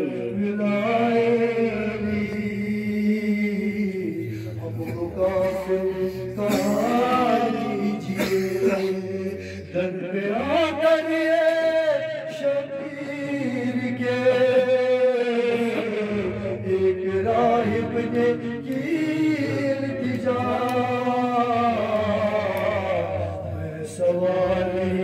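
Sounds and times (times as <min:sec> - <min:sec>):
man singing unaccompanied: 0:00.0 - 0:25.0.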